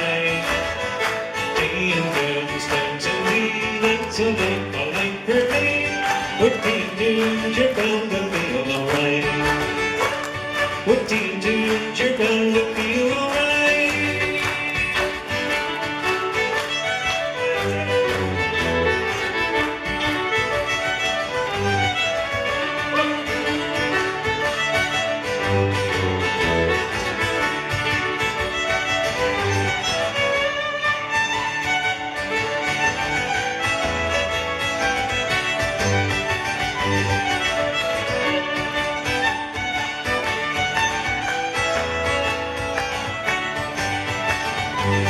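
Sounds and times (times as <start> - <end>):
fiddle playing quick tune: 0.0 - 45.0
strummed accompaniment: 0.0 - 45.0.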